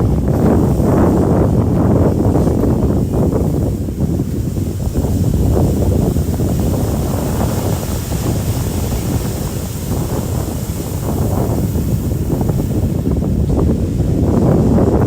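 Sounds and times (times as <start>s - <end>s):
ocean surf breaking: 0.0s - 15.0s
wind buffeting the microphone: 0.0s - 15.0s.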